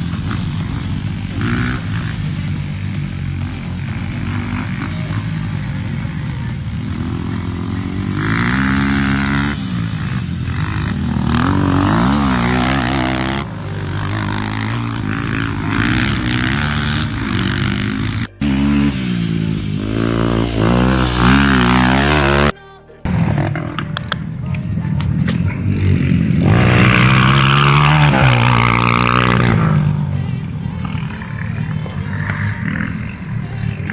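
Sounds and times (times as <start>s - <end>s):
dirt bike engines revving: 0.0s - 33.9s.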